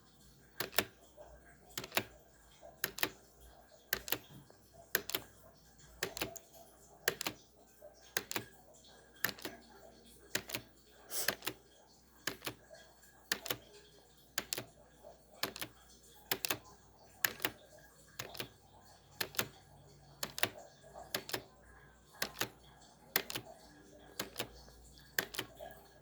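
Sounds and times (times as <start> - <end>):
timer ticking clicks: 0.6 - 1.0, 1.7 - 2.2, 2.8 - 3.2, 3.8 - 10.7, 11.3 - 14.8, 15.4 - 26.0.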